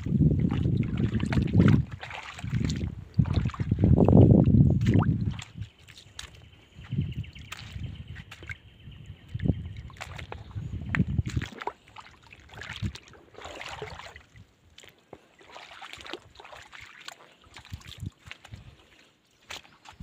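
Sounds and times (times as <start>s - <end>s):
footsteps through shallow water: 0.0s - 20.0s
water splashing and sloshing: 0.0s - 20.0s.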